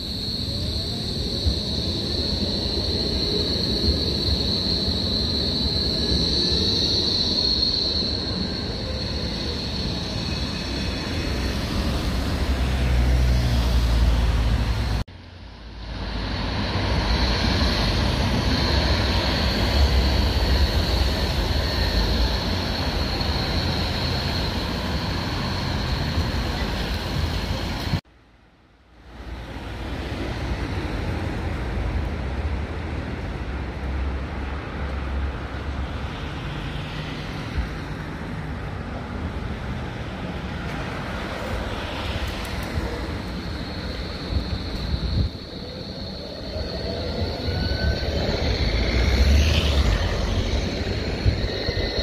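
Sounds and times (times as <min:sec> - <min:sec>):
distant trams: 0:00.0 - 0:52.0
tram running gear rumbling: 0:00.1 - 0:15.0, 0:15.8 - 0:28.0, 0:29.4 - 0:52.0
cars passing: 0:00.2 - 0:28.0, 0:29.1 - 0:52.0.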